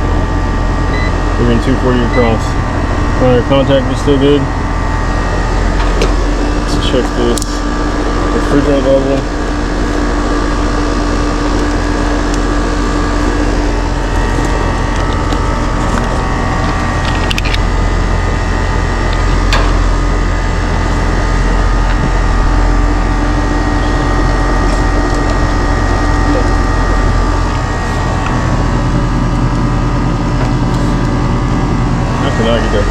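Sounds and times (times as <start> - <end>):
air conditioner unit humming: 0.0 - 32.9.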